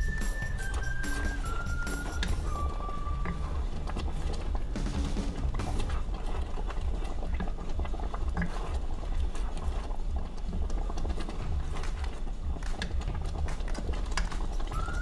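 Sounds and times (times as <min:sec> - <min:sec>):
sauce bubbling in a pot: 0:00.0 - 0:15.0
wooden spoon scraping a pot: 0:00.0 - 0:15.0.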